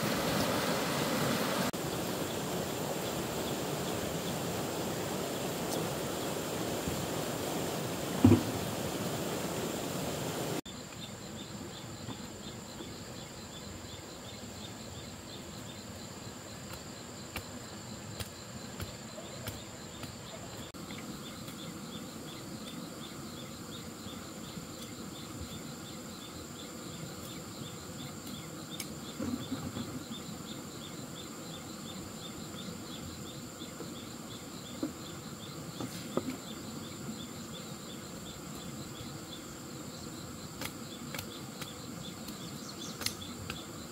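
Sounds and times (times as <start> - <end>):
insects chirping: 0.0 - 43.9
insects droning: 0.0 - 43.9.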